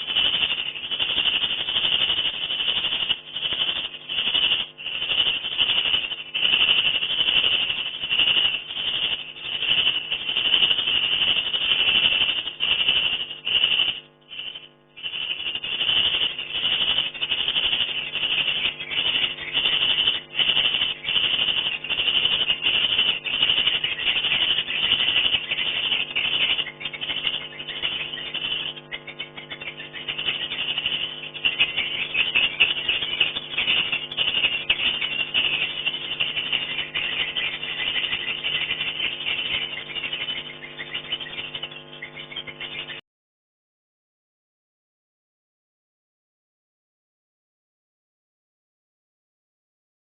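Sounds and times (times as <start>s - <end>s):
steady low hum: 0.0s - 43.0s
swiftlets twittering: 0.0s - 43.0s.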